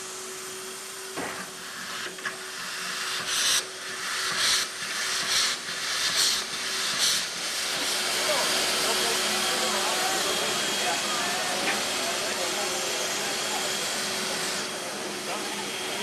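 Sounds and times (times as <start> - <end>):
steam hissing: 0.0 - 16.0
steam locomotive puffs: 0.8 - 16.0.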